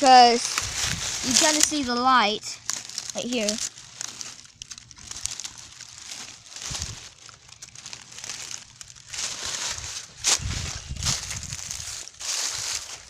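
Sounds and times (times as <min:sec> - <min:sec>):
crinkling and rustling: 0:00.0 - 0:13.0
soft low thumps: 0:00.4 - 0:03.1, 0:03.7 - 0:13.0.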